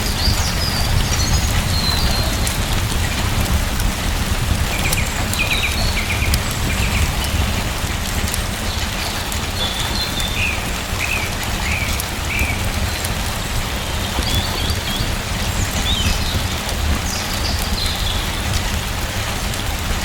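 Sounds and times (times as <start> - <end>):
sharp ticks: 0.0 - 18.8
steady rain: 0.0 - 20.0.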